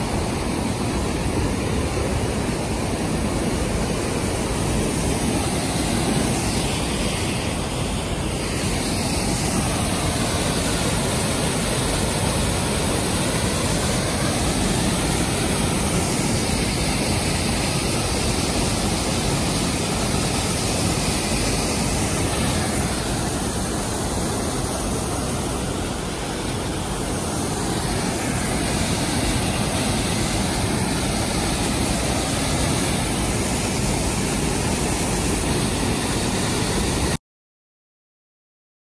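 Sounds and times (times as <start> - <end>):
waterfall rushing: 0.0 - 37.2.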